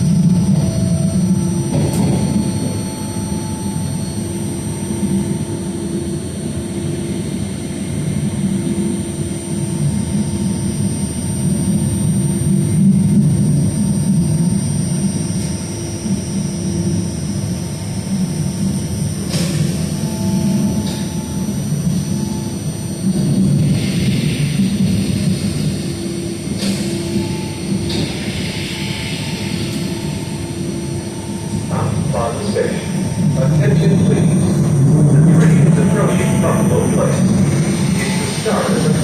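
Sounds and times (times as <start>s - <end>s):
electric drive whine: 0.0s - 39.0s
train wheels rumbling on rail: 0.0s - 39.0s.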